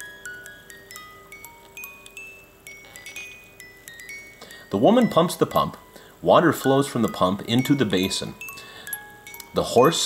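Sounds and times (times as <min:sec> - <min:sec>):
music box steel comb notes: 0:00.0 - 0:10.0.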